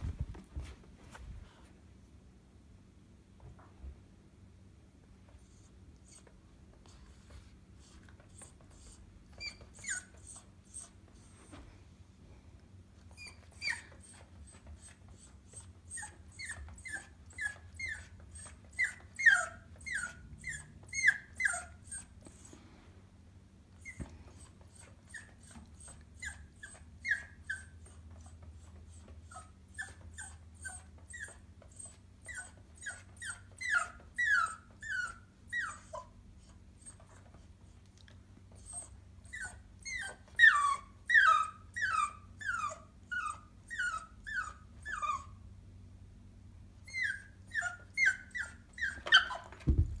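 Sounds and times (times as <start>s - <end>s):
puppy whimpering and whining: 5.4s - 11.6s, 13.0s - 22.6s, 23.7s - 45.5s, 46.8s - 50.0s.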